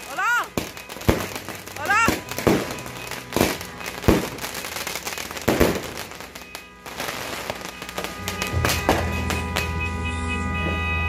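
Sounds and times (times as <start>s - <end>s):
fireworks popping: 0.0s - 9.9s
fireworks bangs: 0.0s - 11.0s.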